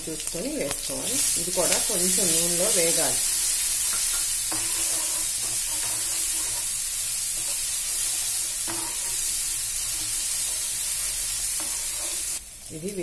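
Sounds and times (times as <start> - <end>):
paste sizzling in hot oil: 0.0 - 12.8
steel spoon scraping: 1.6 - 12.4.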